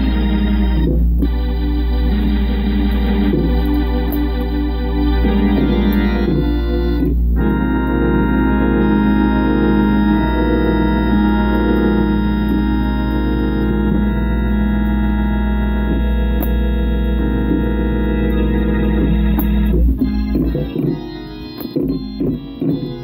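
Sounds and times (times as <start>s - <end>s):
organ playing gospel chords: 0.0s - 23.0s.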